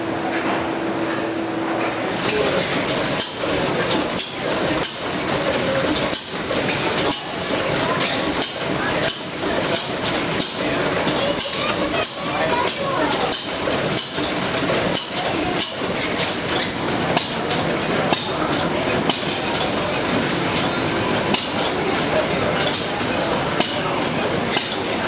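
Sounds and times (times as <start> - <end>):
large stationary engine running: 0.0 - 25.0
sharp mechanical clanks: 0.2 - 25.0.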